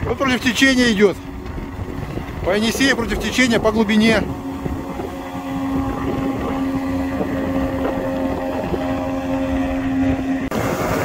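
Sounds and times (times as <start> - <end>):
outboard motor running: 0.0 - 11.0
wind on microphone: 0.0 - 11.0.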